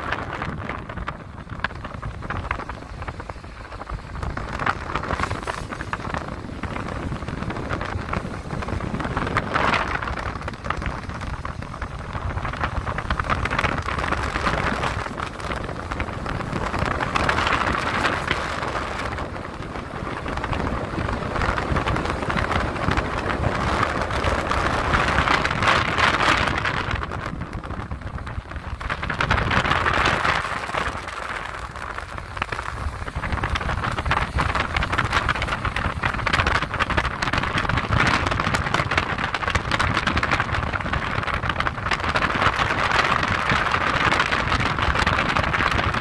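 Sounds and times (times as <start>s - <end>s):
vehicle road rumble: 0.0s - 46.0s.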